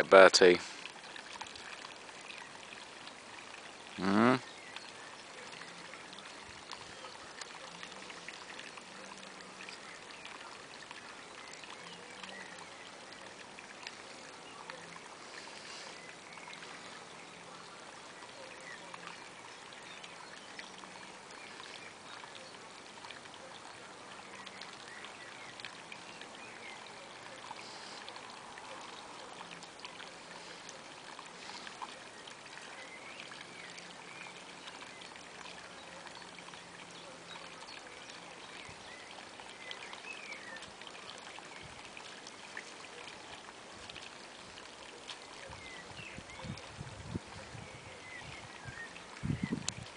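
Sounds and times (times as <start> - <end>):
small water splashes: 0.0 - 49.9
water trickling: 0.0 - 49.9.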